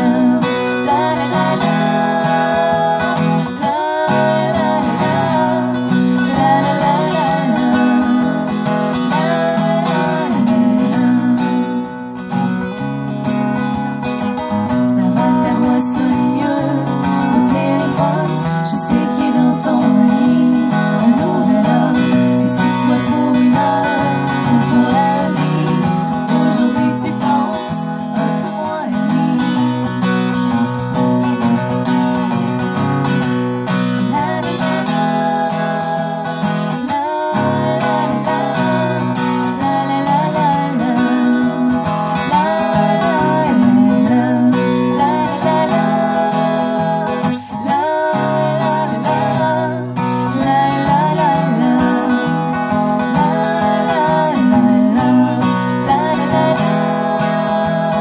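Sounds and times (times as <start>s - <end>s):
woman singing: 0.0s - 12.8s, 14.4s - 32.4s, 33.7s - 58.0s
acoustic guitar strumming: 0.0s - 58.0s.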